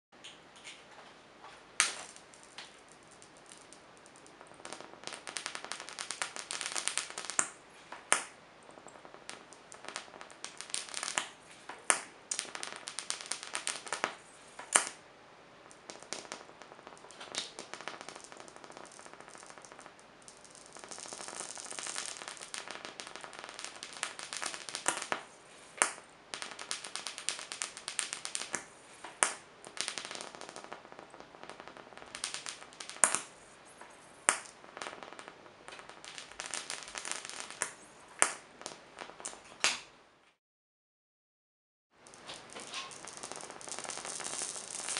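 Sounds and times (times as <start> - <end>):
electric arc crackling: 1.6 - 39.8, 42.0 - 44.9
sparks snapping: 1.8 - 15.0, 15.6 - 39.9, 42.0 - 44.9.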